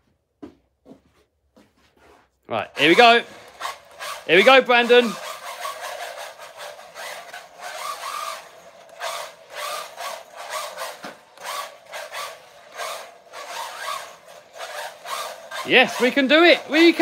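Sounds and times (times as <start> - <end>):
rc car tyres scrubbing on carpet: 2.0 - 17.0
electric motor whine: 2.8 - 17.0.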